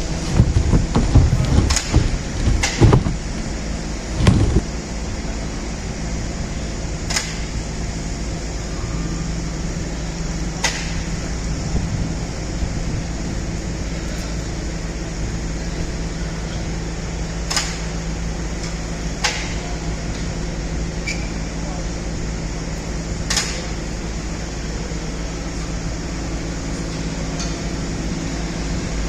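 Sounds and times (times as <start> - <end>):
construction cradle mechanical hum: 0.0 - 29.0.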